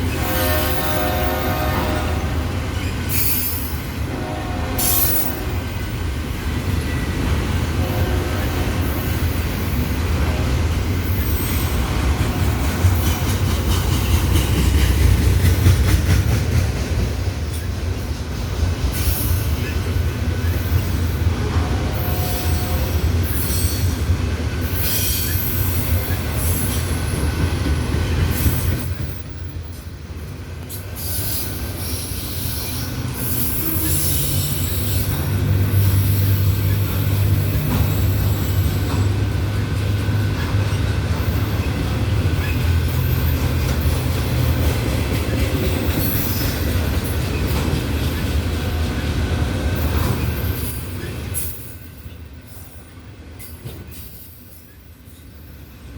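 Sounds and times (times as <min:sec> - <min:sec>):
steel wheels rumbling on rail: 0:00.0 - 0:55.9.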